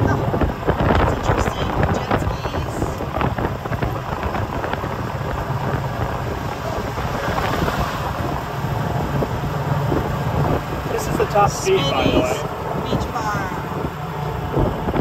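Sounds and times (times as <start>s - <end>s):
golf cart running: 0.0s - 15.0s
wind buffeting microphone: 0.0s - 15.0s.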